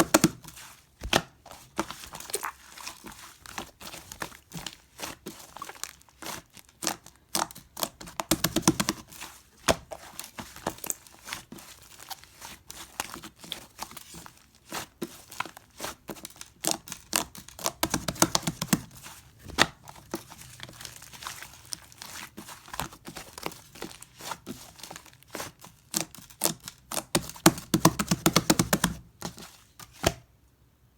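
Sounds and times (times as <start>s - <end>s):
slime squishing with sticky pops: 0.0s - 30.3s.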